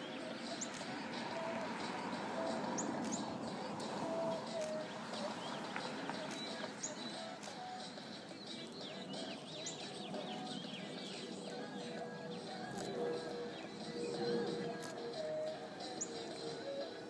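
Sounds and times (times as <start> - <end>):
outdoor background noise: 0.0 - 17.0
small birds chirping: 0.0 - 17.0.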